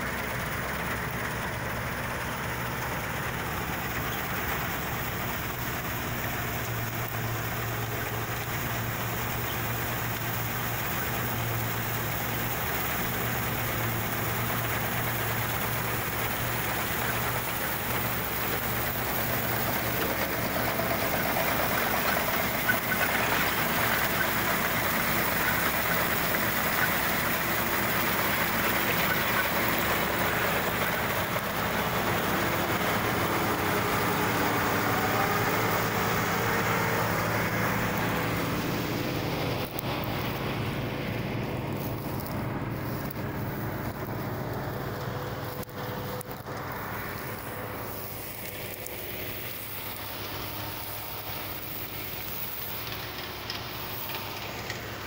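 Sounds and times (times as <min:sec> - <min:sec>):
combine harvester engine drone: 0:00.0 - 0:55.0
rush of harvesting machinery: 0:00.0 - 0:55.0.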